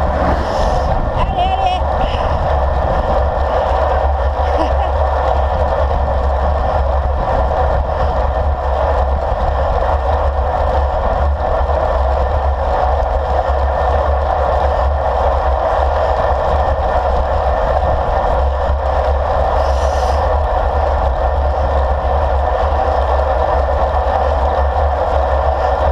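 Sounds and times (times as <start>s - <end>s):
wind buffeting microphone: 0.0s - 25.9s
wind rush: 0.0s - 25.9s.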